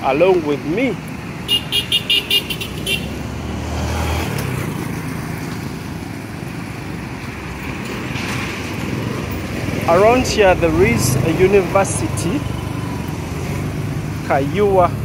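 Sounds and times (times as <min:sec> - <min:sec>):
motorcycle engine hum: 0:00.0 - 0:15.0
traffic passing on street: 0:00.0 - 0:15.0.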